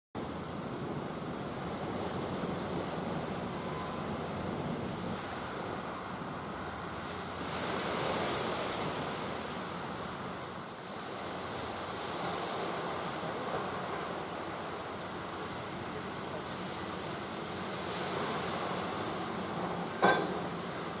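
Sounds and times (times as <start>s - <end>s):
sea waves washing: 0.2s - 21.0s
wind buffeting microphone: 0.3s - 21.0s.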